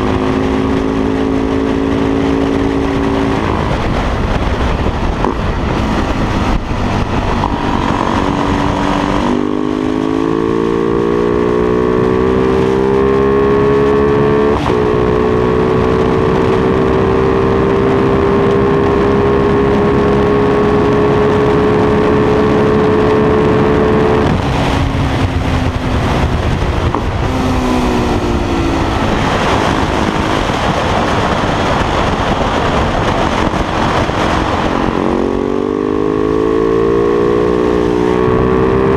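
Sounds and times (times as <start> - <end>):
motorcycle engine revving: 0.0 - 38.9
wind and road noise: 0.0 - 38.9.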